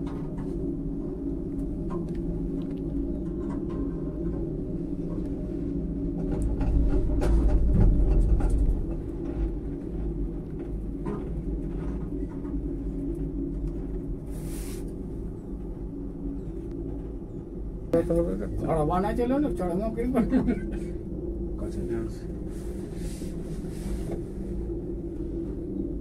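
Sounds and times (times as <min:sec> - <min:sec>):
cable car rumble and hum: 0:00.0 - 0:26.0
wind on microphone: 0:00.0 - 0:26.0.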